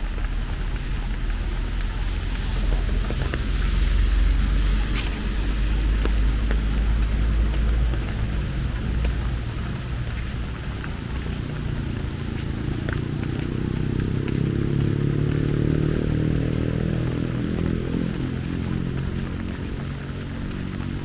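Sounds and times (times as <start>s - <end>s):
low rumble: 0.0s - 21.0s
rain drops ticking: 0.0s - 21.0s
rain hiss: 0.0s - 21.0s.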